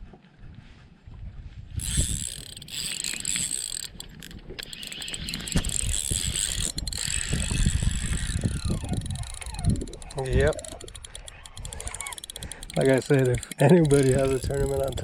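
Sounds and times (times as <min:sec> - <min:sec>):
fishing reel whirring: 0:01.8 - 0:15.0.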